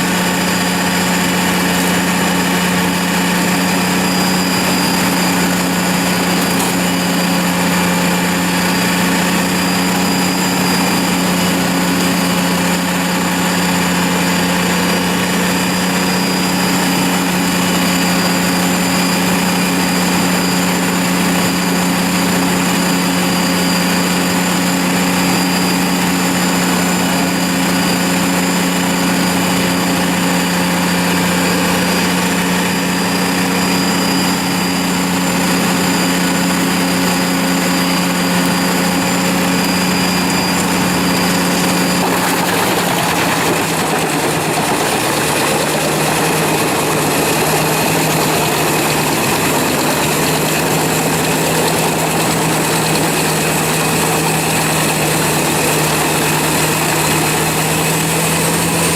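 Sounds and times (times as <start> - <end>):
large machine engine humming: 0.0 - 58.9.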